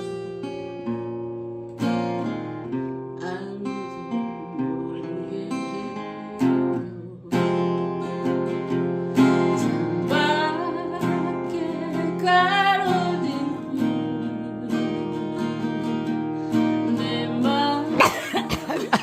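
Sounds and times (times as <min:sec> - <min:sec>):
acoustic guitar strumming: 0:00.0 - 0:19.0
person singing: 0:03.1 - 0:19.0.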